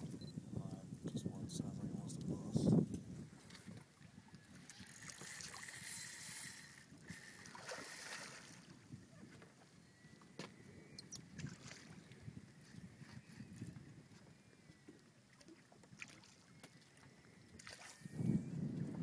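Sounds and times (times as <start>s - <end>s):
faint water noise: 0.0s - 19.0s
wind: 0.0s - 19.0s.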